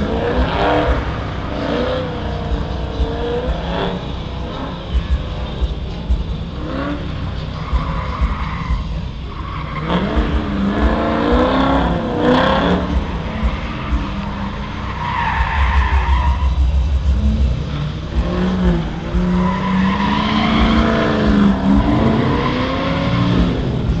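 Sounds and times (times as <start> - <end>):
tyres squealing: 0.0 - 16.8, 17.9 - 24.0
car engine revving: 0.0 - 24.0.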